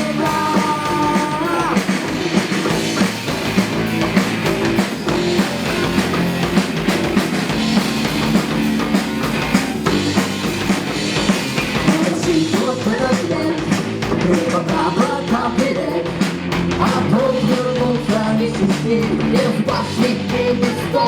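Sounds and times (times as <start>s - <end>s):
drum kit steady beat: 0.0s - 21.0s
electric guitars: 0.0s - 21.0s.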